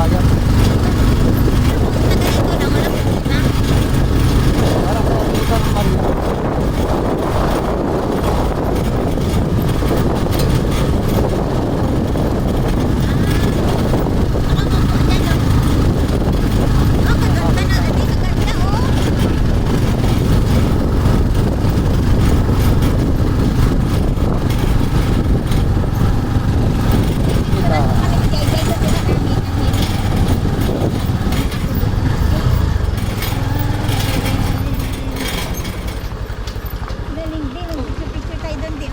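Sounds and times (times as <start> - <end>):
vehicle road and wind noise: 0.0 - 38.9.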